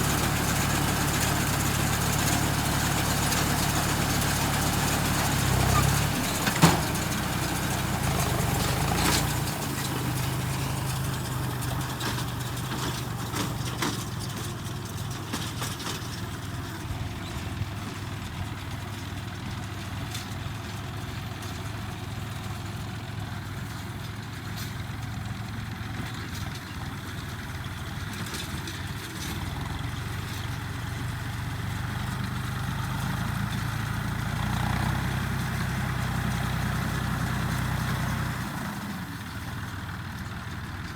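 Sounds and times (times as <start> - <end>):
engine running at low speed: 0.0 - 40.9.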